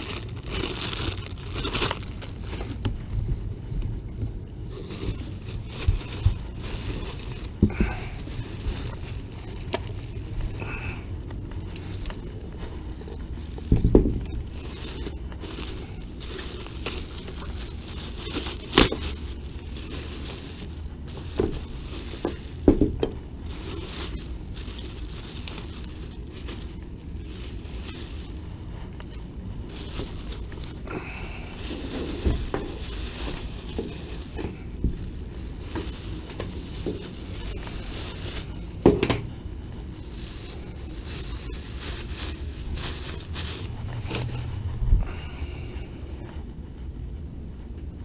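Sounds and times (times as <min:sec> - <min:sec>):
plastic packaging crinkling: 0:00.0 - 0:47.0.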